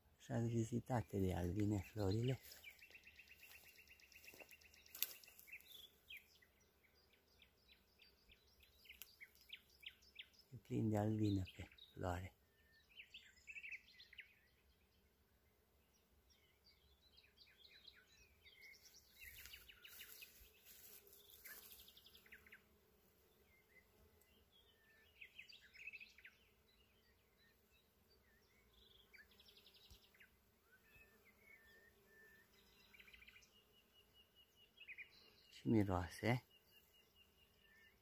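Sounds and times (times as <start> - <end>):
small birds chirping and trilling: 0.0 - 38.0.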